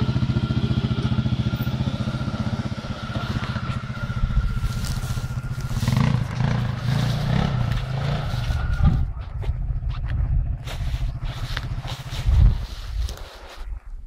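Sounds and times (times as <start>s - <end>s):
quad bike engine: 0.0s - 13.4s.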